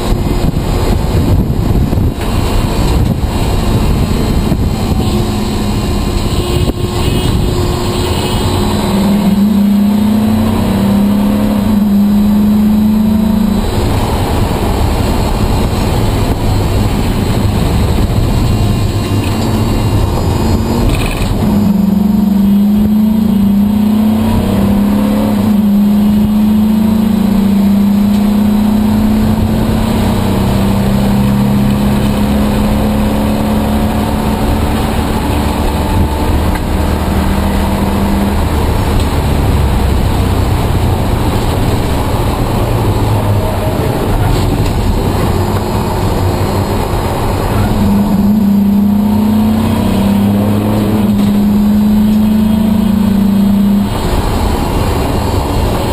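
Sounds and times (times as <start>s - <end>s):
race car engine from inside: 0.0s - 55.9s
road noise: 0.0s - 55.9s
wind noise: 0.0s - 55.9s.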